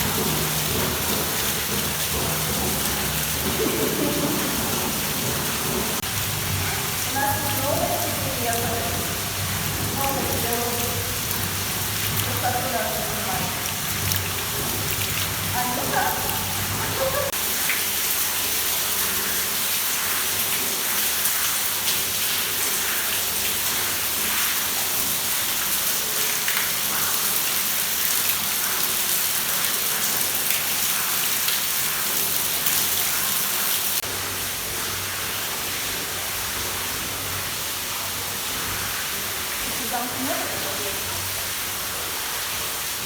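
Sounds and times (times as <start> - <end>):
water pouring and splashing: 0.0 - 43.0.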